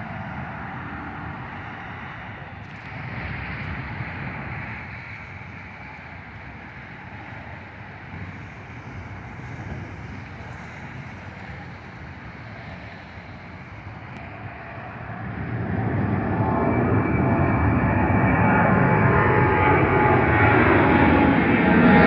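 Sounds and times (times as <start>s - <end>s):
distant jet engine rumble: 0.0s - 22.0s.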